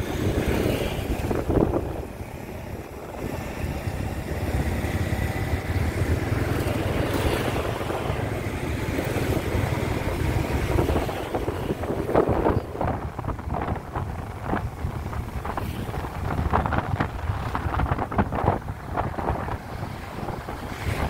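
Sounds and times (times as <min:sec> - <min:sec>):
engine and road drone: 0:00.0 - 0:21.0
wind rushing over microphone: 0:00.0 - 0:21.0.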